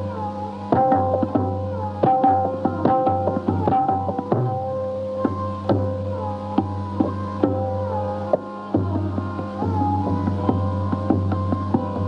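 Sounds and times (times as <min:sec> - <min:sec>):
tabla strokes: 0:00.0 - 0:12.0.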